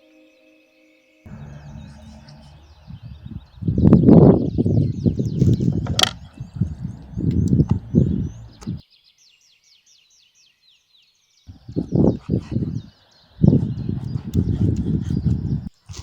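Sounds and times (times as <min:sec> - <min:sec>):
small birds chirping: 0:01.3 - 0:16.0.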